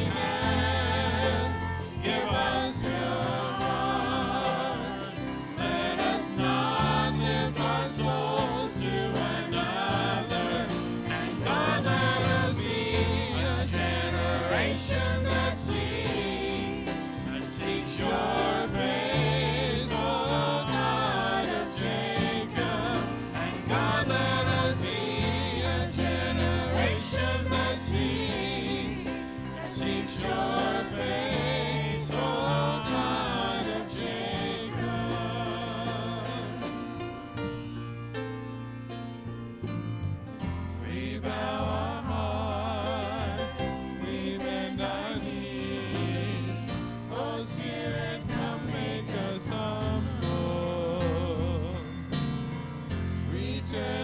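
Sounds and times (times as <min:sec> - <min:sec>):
group of voices singing: 0:00.0 - 0:37.4, 0:40.7 - 0:54.0
held bass notes: 0:00.0 - 0:54.0
instrumental accompaniment: 0:00.0 - 0:54.0
percussion: 0:00.0 - 0:54.0.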